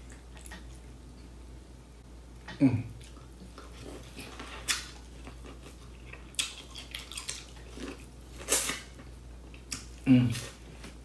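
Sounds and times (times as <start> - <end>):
person chewing: 0.0 - 1.0, 2.4 - 10.9.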